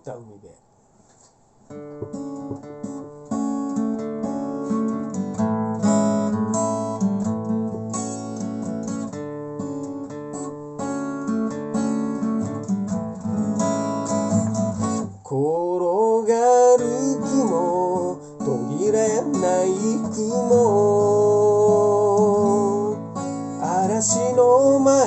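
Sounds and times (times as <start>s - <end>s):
acoustic guitar strummed: 1.7s - 25.0s.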